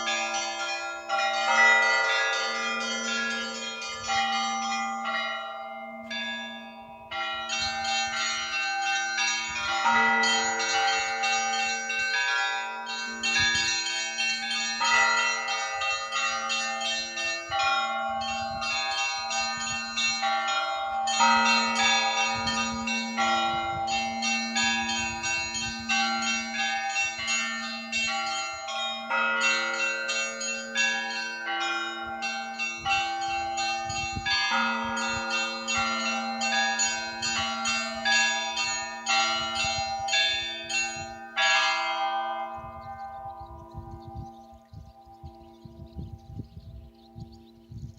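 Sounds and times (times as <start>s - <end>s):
low bell beating: 0.0s - 47.9s
small high bells ringing: 0.0s - 47.9s.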